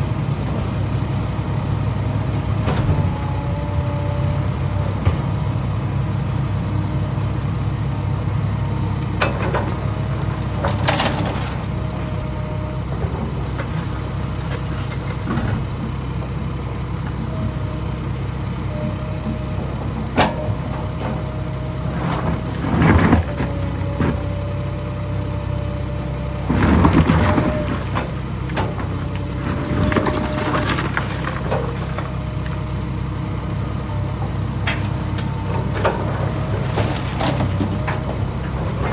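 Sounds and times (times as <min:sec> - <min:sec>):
heavy construction machinery: 0:00.0 - 0:38.9.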